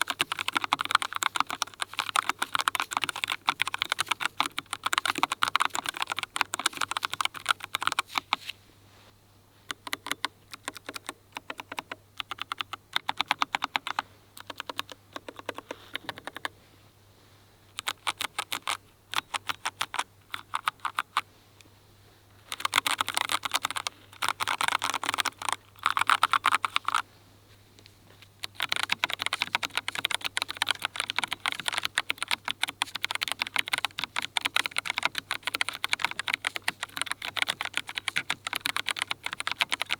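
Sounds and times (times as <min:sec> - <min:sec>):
mechanical keyboard typing: 0:00.0 - 0:08.4, 0:09.7 - 0:16.5, 0:17.8 - 0:21.2, 0:22.5 - 0:27.0, 0:28.4 - 0:39.9.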